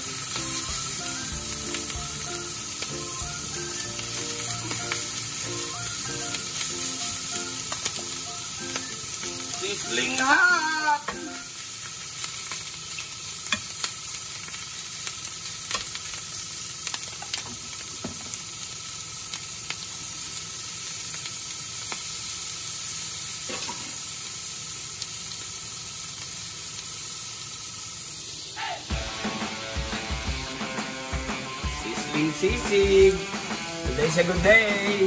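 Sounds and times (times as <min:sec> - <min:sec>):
meat sizzling in a skillet: 0:00.0 - 0:35.0.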